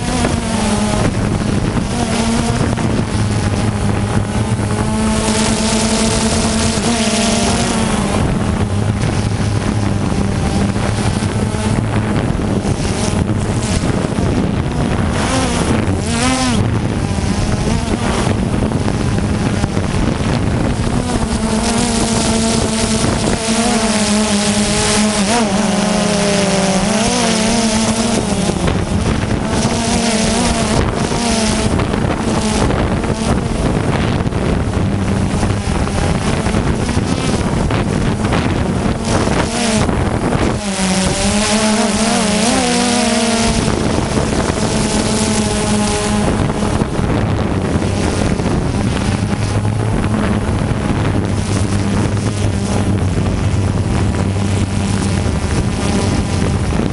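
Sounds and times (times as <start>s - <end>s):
drone propellers humming: 0.0s - 56.9s
wind rushing over microphone: 0.0s - 56.9s.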